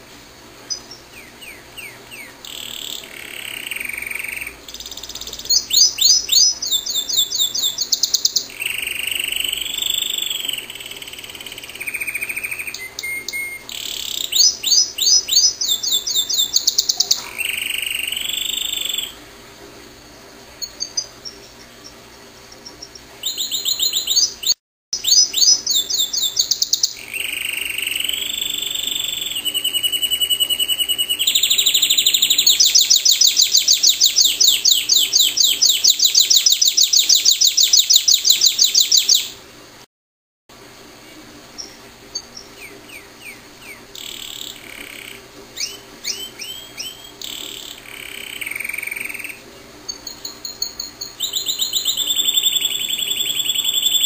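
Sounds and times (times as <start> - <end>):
canary singing trills: 0.6 - 19.2, 20.6 - 39.4, 41.5 - 54.0.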